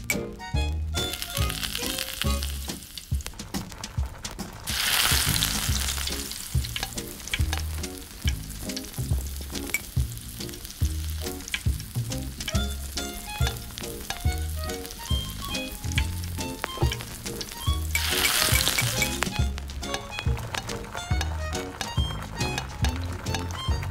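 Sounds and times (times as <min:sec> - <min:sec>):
background music with bass line: 0:00.0 - 0:23.9
frying pan sizzling: 0:00.0 - 0:23.9.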